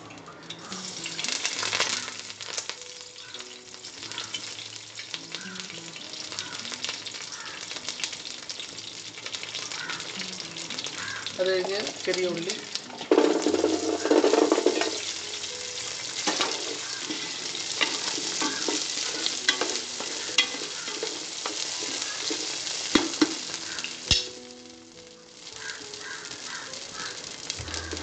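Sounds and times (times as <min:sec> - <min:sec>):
shallots sizzling in oil: 0:00.0 - 0:28.0.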